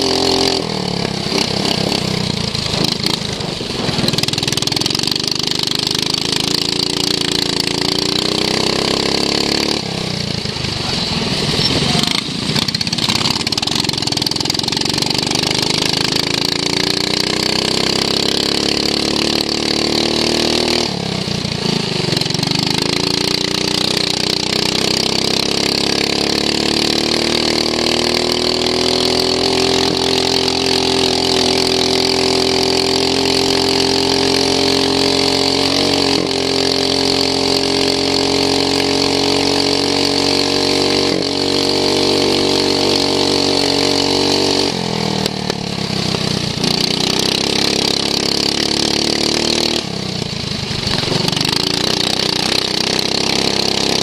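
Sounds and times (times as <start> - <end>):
lawn mower engine at high revs: 0.0 - 54.0.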